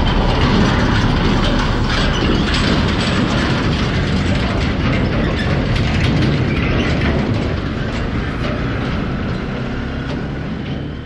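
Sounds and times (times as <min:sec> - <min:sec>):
rattling knocks: 0:00.0 - 0:11.0
vehicle rumbling over rough road: 0:00.0 - 0:11.0.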